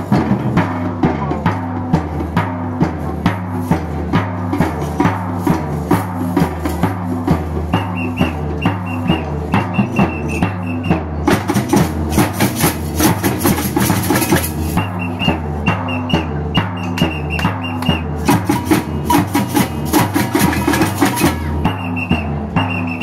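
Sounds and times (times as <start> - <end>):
surdo bass drum: 0.0 - 23.0
tamborims struck with sticks: 0.0 - 23.0.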